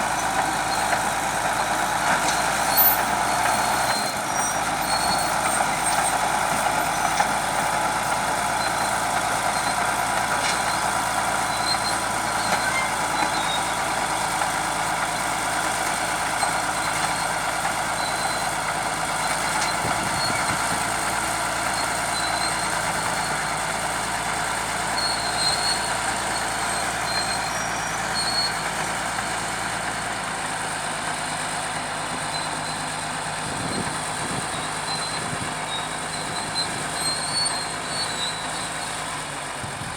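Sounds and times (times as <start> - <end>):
bulldozer running: 0.0 - 39.9.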